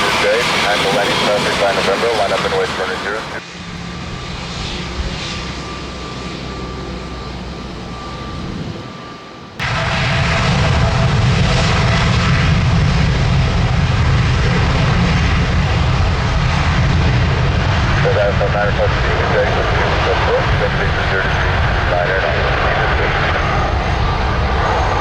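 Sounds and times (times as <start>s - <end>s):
jet engines on takeoff: 0.0s - 25.0s.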